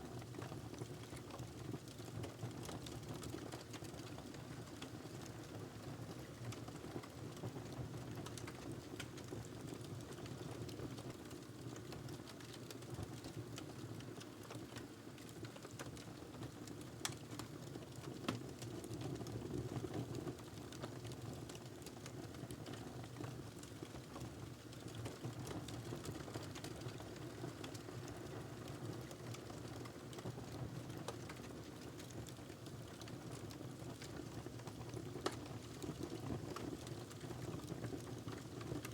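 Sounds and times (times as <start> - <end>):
fire crackles and pops: 0.2 - 38.9.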